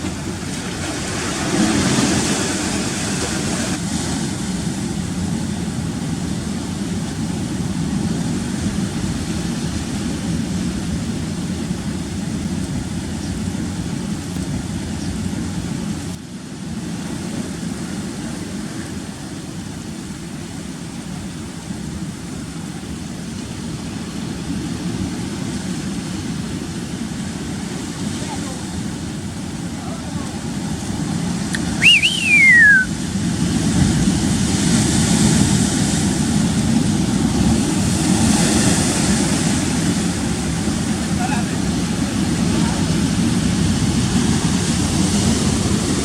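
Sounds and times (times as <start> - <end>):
rough sea surf roaring: 0.0 - 46.0
wind buffeting microphone: 0.0 - 46.0.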